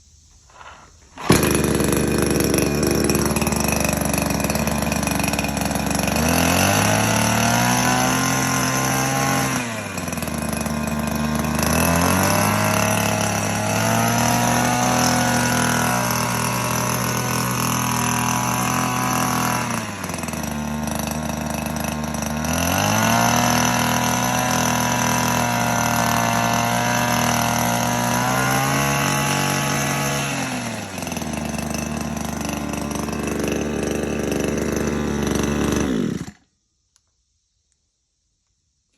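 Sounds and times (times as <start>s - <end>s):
hedge trimmer engine revving: 0.5s - 36.4s.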